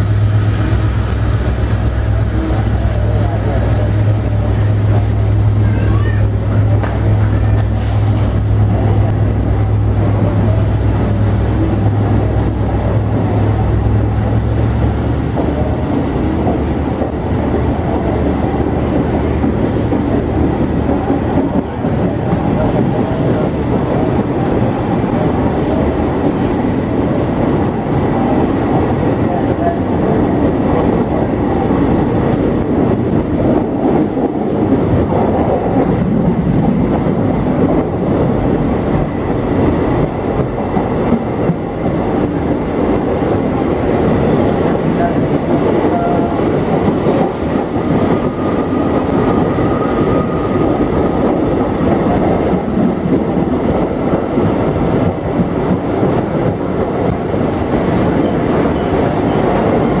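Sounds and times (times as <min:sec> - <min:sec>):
train rumbling past: 0:00.0 - 1:00.0.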